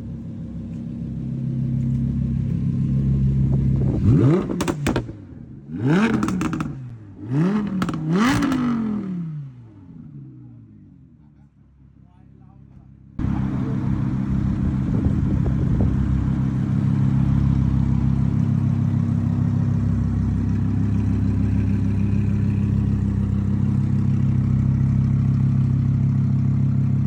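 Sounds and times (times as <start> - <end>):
car engine droning: 0.0 - 11.9, 12.7 - 27.0.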